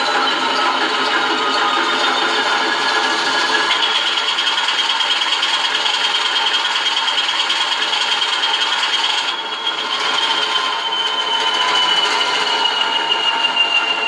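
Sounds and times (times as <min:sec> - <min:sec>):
diesel engine sound through small loudspeaker: 0:00.0 - 0:14.0.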